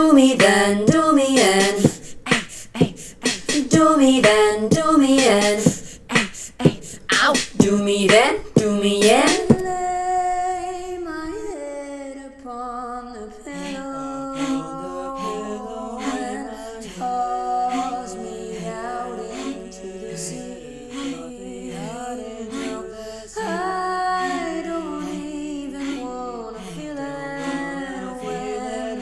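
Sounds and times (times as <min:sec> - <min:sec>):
a cappella voices harmonising: 0:00.0 - 0:29.0.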